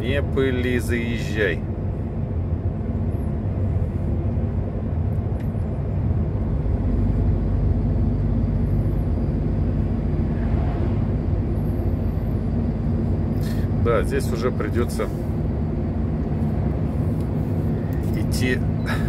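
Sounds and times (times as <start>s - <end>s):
road noise: 0.0s - 19.0s
truck engine drone in cab: 0.0s - 19.0s.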